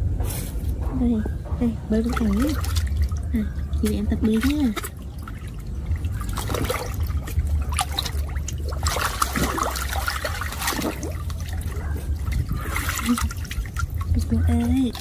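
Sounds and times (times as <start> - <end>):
steady low hum: 0.0 - 15.0
pool water splashing: 2.0 - 15.0.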